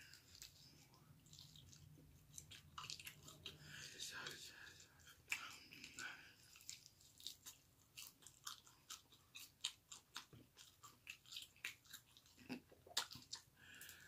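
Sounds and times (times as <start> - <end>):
person chewing chicken wings: 0.0 - 14.0.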